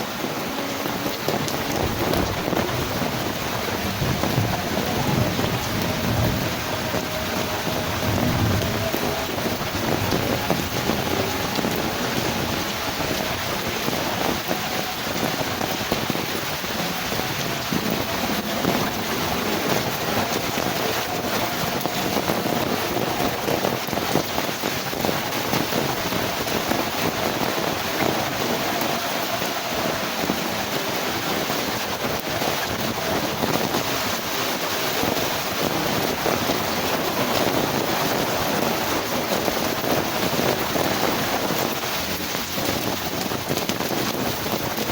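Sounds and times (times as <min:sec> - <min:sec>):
heavy rain: 0:00.0 - 0:44.9
strong wind: 0:00.0 - 0:44.9.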